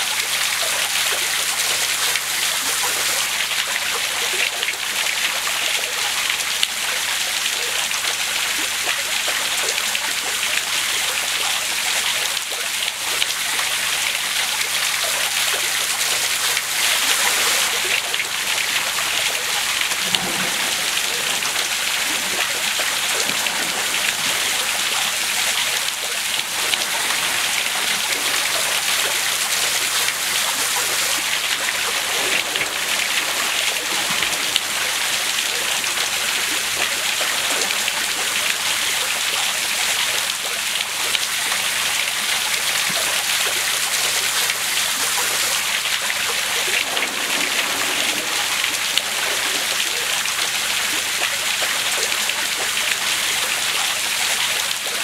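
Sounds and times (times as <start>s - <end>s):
waterfall pouring into pool: 0.0s - 55.0s.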